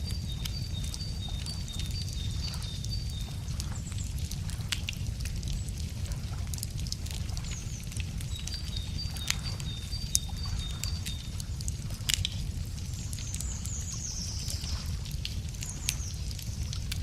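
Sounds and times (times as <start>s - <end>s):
birds singing: 0.0s - 5.8s, 7.2s - 17.0s
bonfire crackling and popping: 0.0s - 17.0s.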